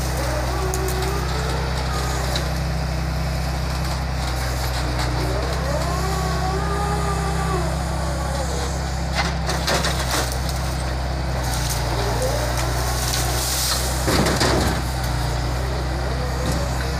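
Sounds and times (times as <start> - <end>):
wood cracking and crunching: 0.0 - 7.2, 8.2 - 16.9
diesel engine running: 0.0 - 16.9
hydraulic grapple working: 0.0 - 16.9.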